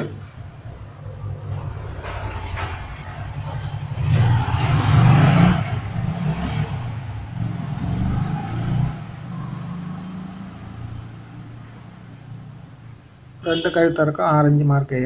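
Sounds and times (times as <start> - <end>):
passing vehicle engine rumble: 0.0 - 13.4.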